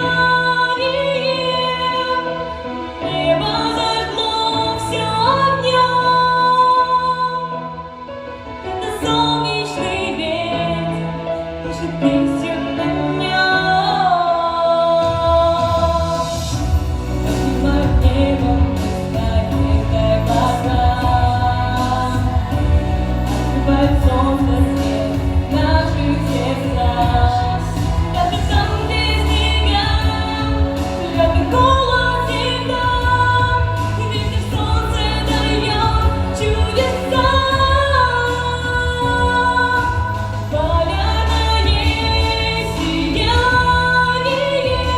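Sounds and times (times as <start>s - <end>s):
woman singing: 0.0s - 44.9s.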